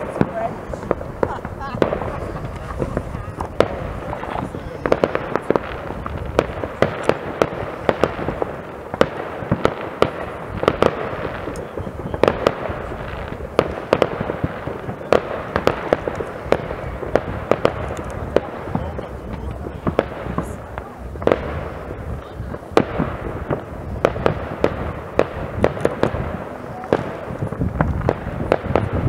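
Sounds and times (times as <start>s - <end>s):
distant fireworks rumble: 0.0s - 29.0s
fireworks cracks and pops: 0.0s - 29.0s.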